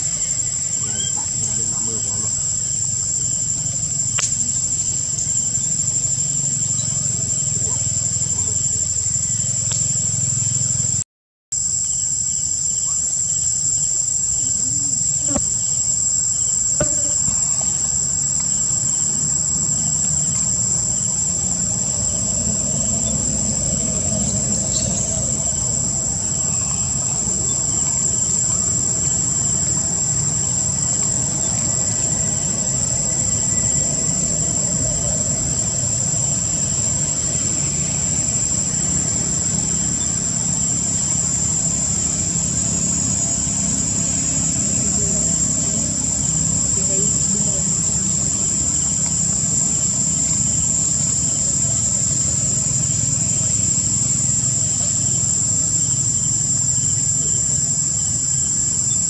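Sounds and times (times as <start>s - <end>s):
insects high-pitched chorus: 0.0s - 11.0s, 11.6s - 59.0s.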